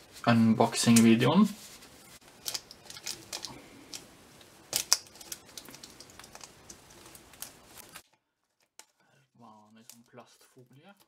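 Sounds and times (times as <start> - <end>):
plastic wrap crinkling: 0.8 - 11.0.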